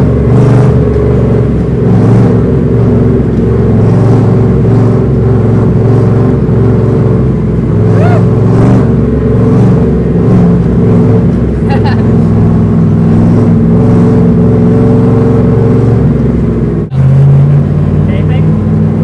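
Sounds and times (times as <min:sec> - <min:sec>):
loud car engine revving: 0:00.0 - 0:19.0.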